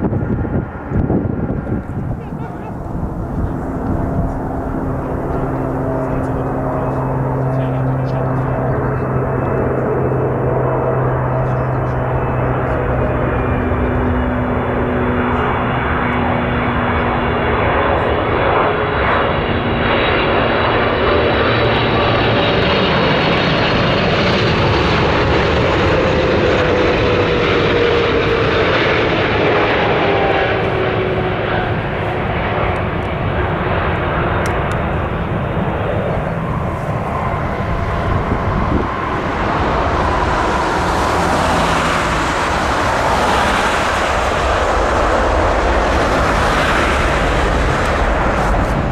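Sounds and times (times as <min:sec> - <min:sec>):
jet airliner engines passing: 0:00.0 - 0:48.9.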